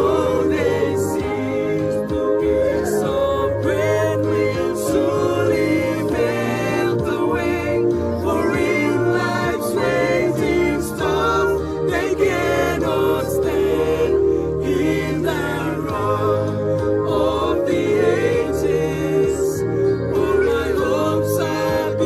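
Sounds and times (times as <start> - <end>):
song with singing voices: 0.0 - 22.0.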